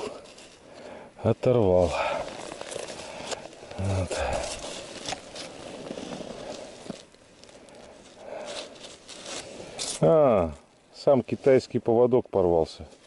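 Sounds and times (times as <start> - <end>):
handling noises on snow and ice: 0.0 - 11.8.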